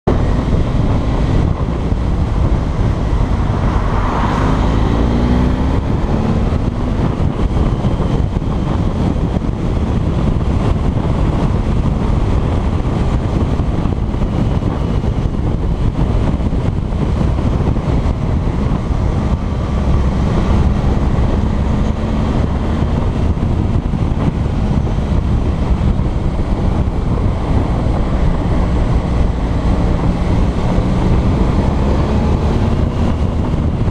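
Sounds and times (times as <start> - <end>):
motorcycle engine: 0.0 - 33.9
wind rushing over microphone: 0.0 - 33.9.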